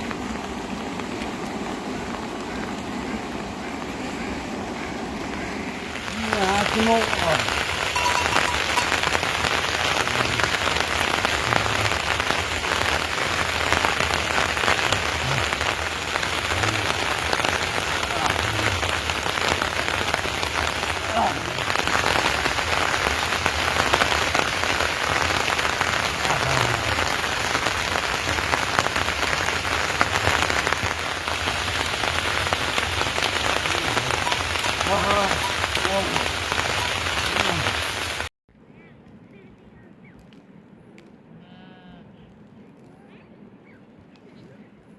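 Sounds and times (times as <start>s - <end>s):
steady rain falling: 0.0s - 38.3s.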